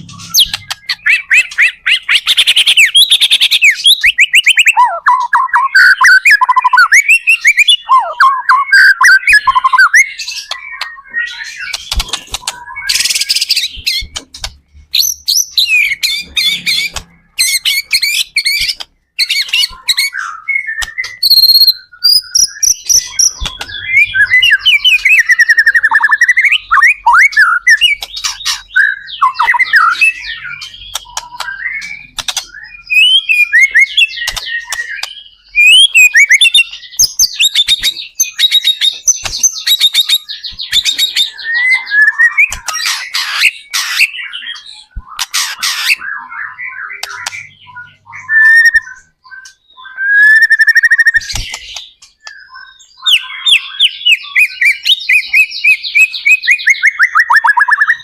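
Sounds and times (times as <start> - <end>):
songbird singing whistles and trills: 0.0 - 58.0.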